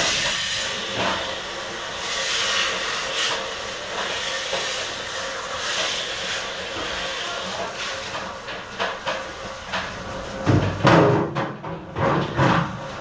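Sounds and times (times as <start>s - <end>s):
kitchen machinery hissing: 0.0s - 10.8s.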